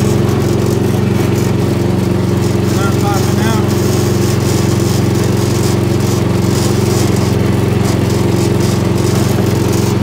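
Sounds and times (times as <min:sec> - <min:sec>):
garden tractor engine running: 0:00.0 - 0:10.0.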